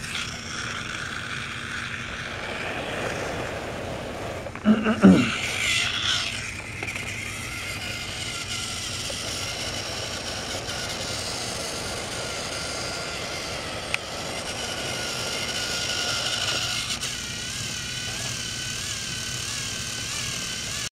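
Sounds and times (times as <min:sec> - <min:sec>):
toy train motor whirring: 0:00.0 - 0:20.9.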